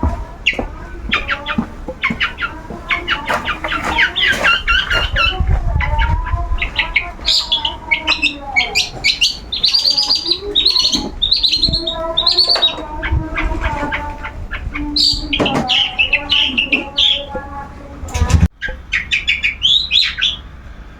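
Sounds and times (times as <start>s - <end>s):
shrike singing high chirps: 0.0s - 20.6s.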